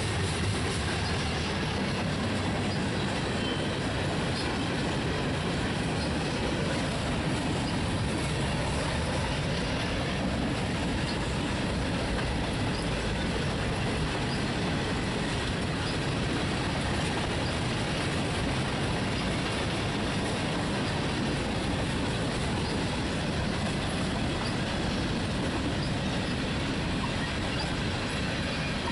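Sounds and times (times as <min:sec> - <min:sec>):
train wheels rolling on rails: 0:00.0 - 0:28.9.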